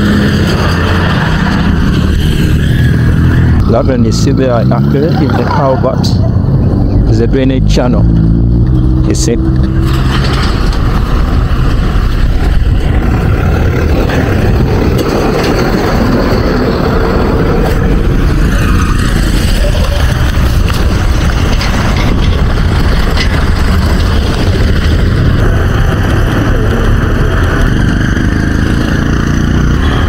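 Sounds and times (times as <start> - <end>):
wind buffeting microphone: 5.7 - 30.0.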